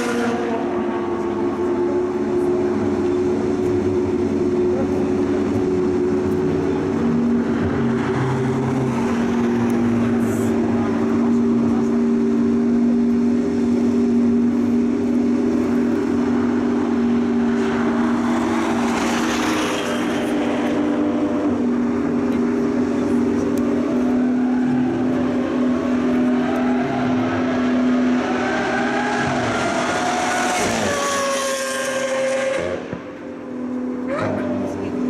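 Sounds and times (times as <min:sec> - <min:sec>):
car engine revving and passing: 0:00.0 - 0:35.0
steady engine drone: 0:00.0 - 0:35.0.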